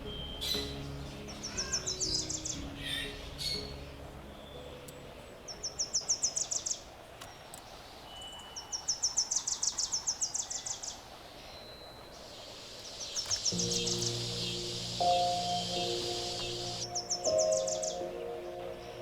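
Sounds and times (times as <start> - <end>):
songbird trilling: 0.0 - 19.0.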